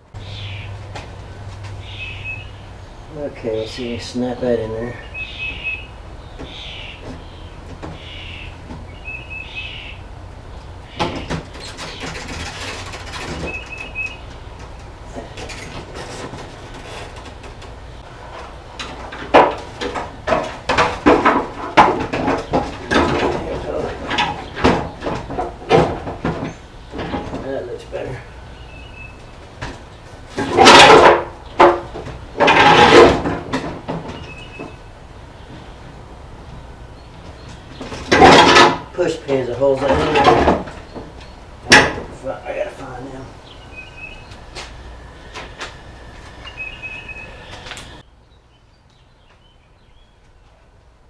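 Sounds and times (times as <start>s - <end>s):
hard parts scraping and sliding: 0.0s - 48.0s
birds chirping: 0.0s - 51.0s.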